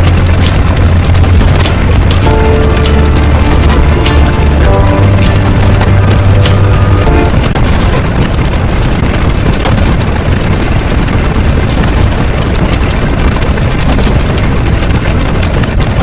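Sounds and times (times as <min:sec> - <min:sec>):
loud crackly rumbling: 0:00.0 - 0:16.0.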